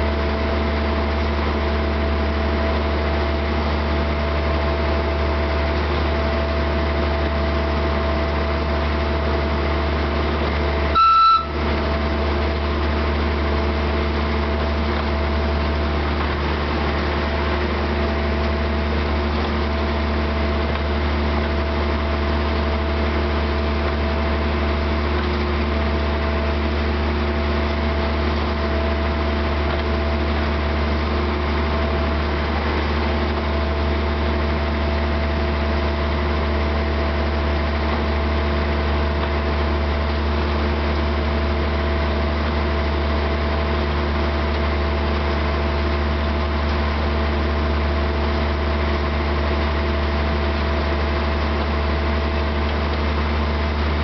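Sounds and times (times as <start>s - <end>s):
diesel locomotive engine humming: 0.0s - 54.0s.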